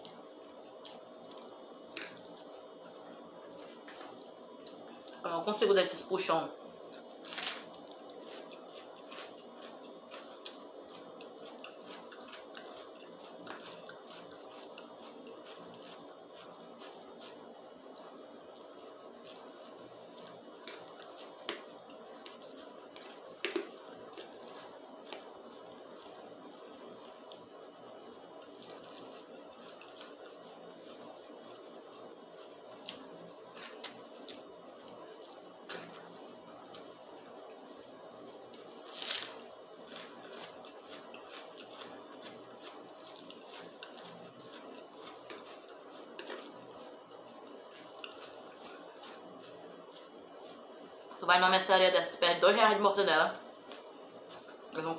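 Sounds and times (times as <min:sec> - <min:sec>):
steady background hiss: 0:00.0 - 0:54.9
wet chewing and mouth clicks: 0:00.8 - 0:05.2, 0:06.9 - 0:36.9, 0:38.5 - 0:51.2.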